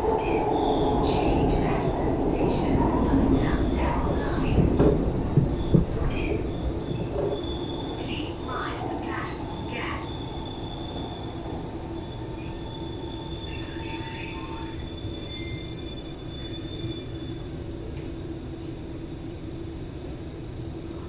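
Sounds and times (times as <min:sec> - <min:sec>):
train low rumble: 0:00.0 - 0:21.0.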